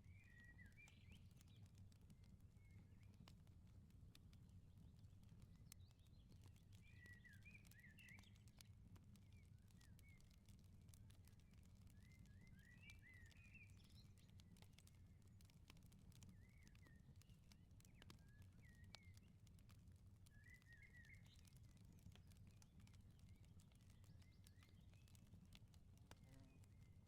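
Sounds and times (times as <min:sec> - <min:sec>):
small birds chirping: 0:00.1 - 0:03.6, 0:04.7 - 0:27.0
wood fire crackling: 0:00.1 - 0:27.0.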